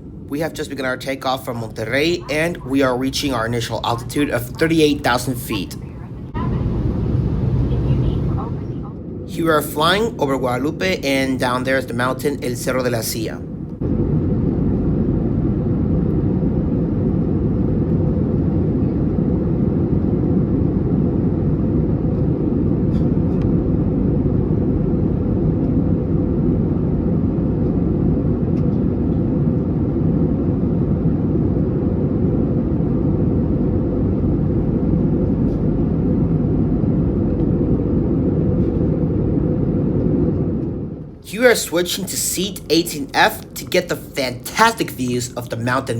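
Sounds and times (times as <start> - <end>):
airplane cabin engine rush: 0.0 - 45.9.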